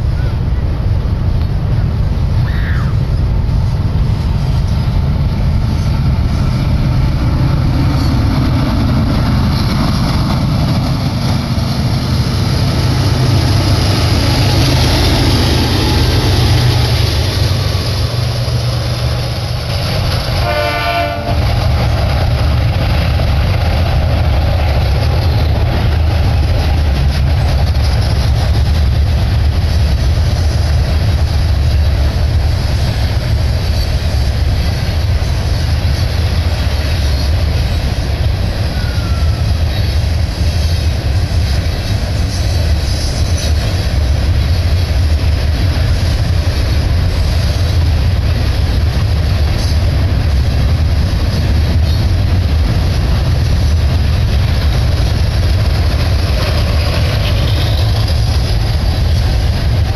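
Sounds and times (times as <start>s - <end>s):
diesel locomotives passing: 0.0s - 59.9s
train wheels rumbling and rattling: 0.0s - 59.9s.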